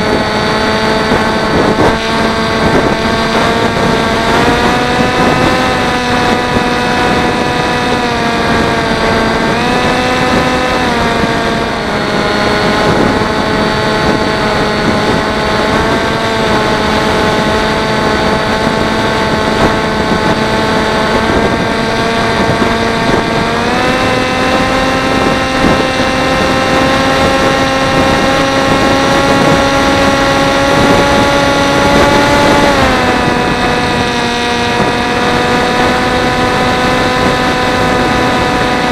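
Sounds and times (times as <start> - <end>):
electric motor and propeller: 0.0 - 38.9
wind noise: 0.0 - 38.9.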